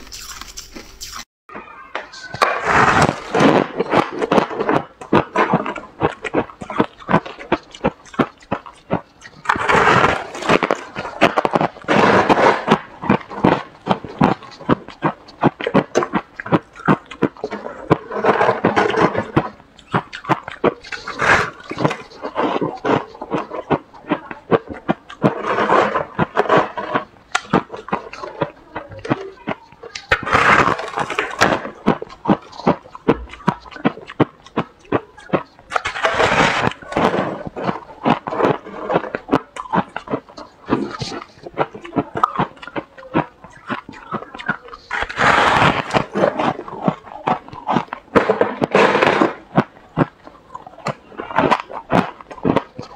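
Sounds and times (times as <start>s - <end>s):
frost being chewed crunching: 0.0s - 52.9s.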